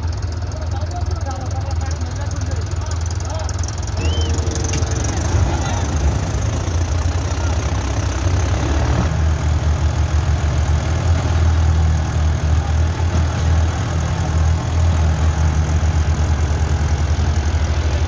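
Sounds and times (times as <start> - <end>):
tractor diesel engines throbbing: 0.0 - 18.0.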